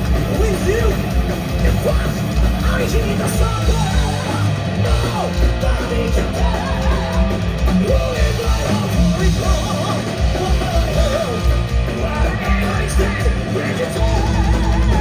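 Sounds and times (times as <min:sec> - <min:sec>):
person singing and yelling: 0:00.0 - 0:15.0
rock band playing loud: 0:00.0 - 0:15.0.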